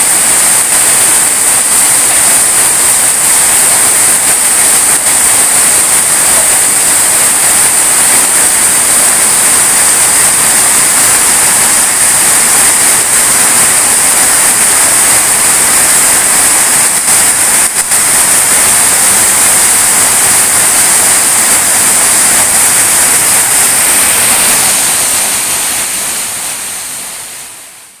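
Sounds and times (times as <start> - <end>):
heavy rain on leaves: 0.0 - 26.7.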